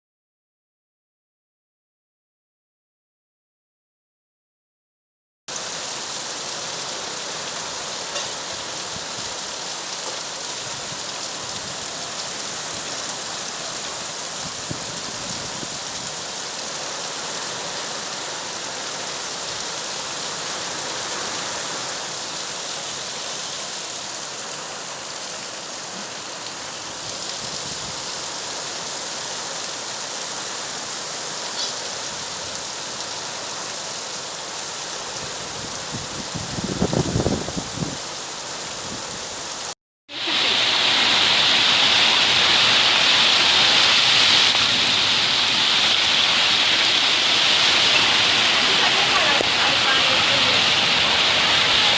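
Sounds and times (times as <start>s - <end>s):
heavy rain falling: 5.5s - 51.9s.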